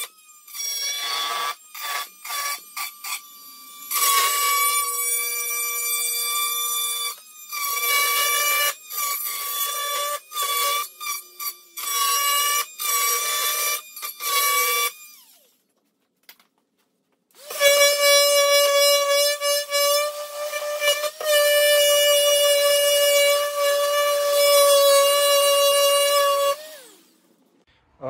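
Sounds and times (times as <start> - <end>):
multi-tool blade whining: 0.0 - 15.7, 17.3 - 27.6.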